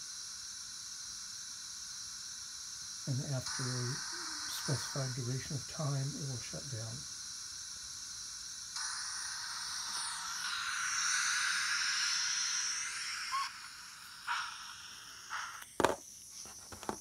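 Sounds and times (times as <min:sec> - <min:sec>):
steam hiss from small speaker: 0:00.0 - 0:17.0.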